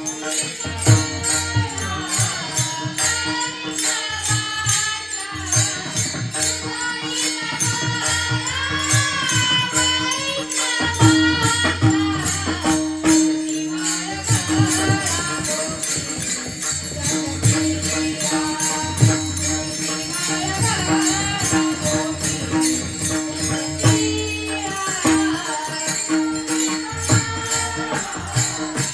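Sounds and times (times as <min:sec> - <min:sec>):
jingling metal percussion: 0:00.0 - 0:28.9
woman singing: 0:00.0 - 0:28.9.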